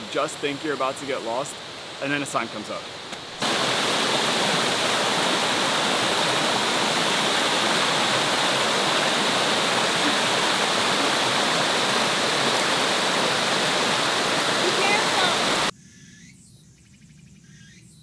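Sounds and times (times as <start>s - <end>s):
stream rushing over rocks: 0.0s - 15.7s.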